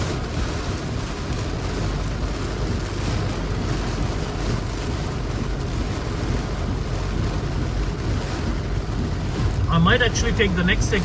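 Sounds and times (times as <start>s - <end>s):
heavy rain on a car: 0.0s - 11.0s
tyre spray on flooded road: 0.0s - 11.0s.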